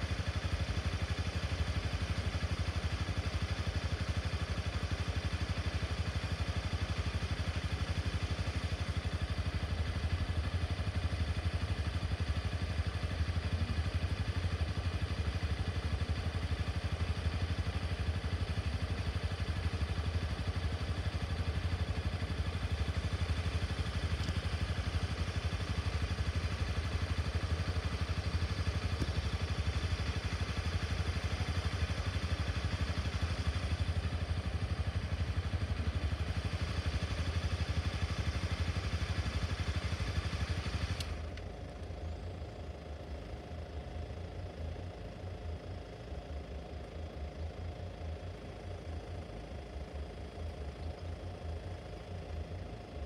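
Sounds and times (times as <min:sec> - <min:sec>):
vehicle engine idling: 0:00.0 - 0:53.0.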